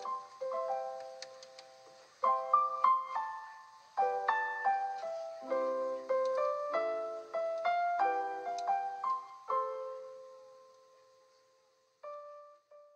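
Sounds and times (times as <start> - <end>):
piano music: 0.0 - 12.9.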